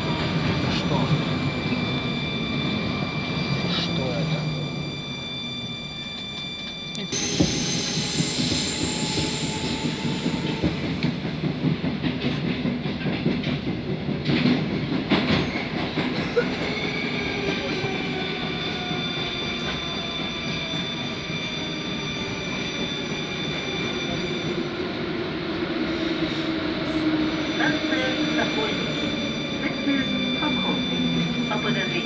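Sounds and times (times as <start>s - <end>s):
whine of steady tones: 0.0s - 11.9s, 15.3s - 32.0s
train wheels rumbling and clattering: 0.0s - 32.0s.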